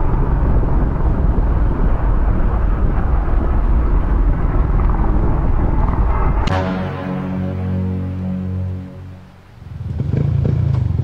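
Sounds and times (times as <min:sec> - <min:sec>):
motorcycle engine rumble: 0:00.0 - 0:11.0
wind noise: 0:00.0 - 0:11.0.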